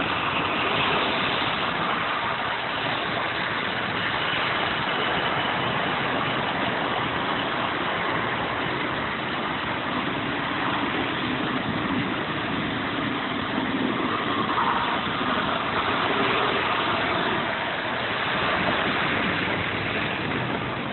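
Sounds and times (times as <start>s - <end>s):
model train humming and rumbling: 0.0s - 20.9s.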